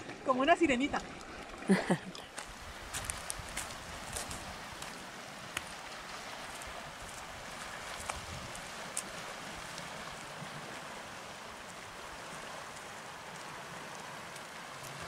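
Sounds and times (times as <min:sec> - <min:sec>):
small waves on rocky shore: 0:00.0 - 0:15.0.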